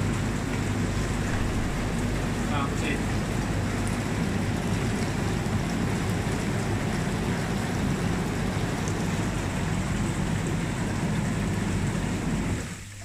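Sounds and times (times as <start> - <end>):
hot tub jets churning water: 0.0 - 13.0
pump low hum: 0.0 - 13.0.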